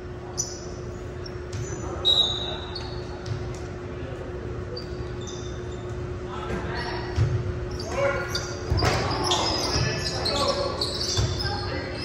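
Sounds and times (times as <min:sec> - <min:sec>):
murmur of voices: 0:00.0 - 0:12.0
steady faint hum: 0:00.0 - 0:12.0
sneakers squeaking on gym floor: 0:00.2 - 0:03.8, 0:04.6 - 0:12.0.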